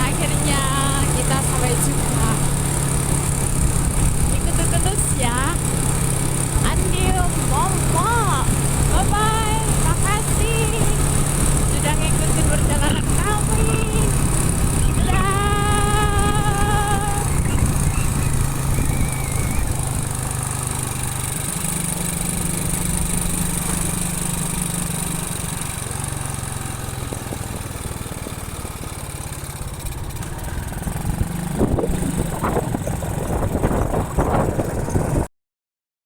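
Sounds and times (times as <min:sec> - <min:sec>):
motorcycle engine running: 0:00.0 - 0:35.3
road and wind noise: 0:00.0 - 0:35.3.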